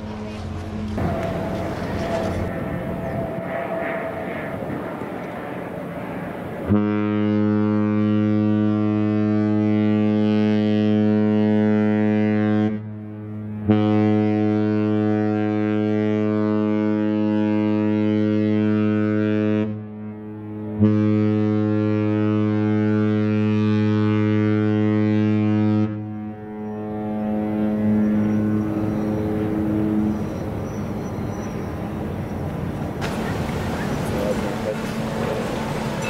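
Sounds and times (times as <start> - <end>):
ship horn blasts: 0.0 - 36.0.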